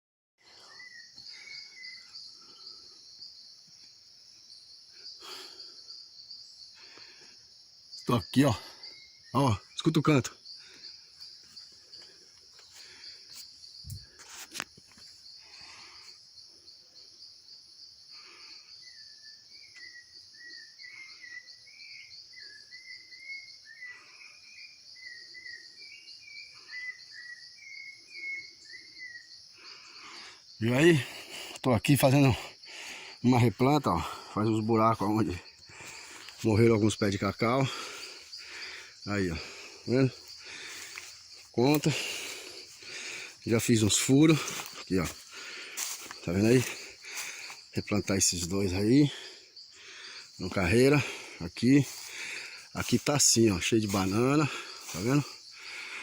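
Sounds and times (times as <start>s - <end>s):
crickets chirping: 0.4s - 56.0s
shrill pulsing insect chorus: 0.4s - 56.0s.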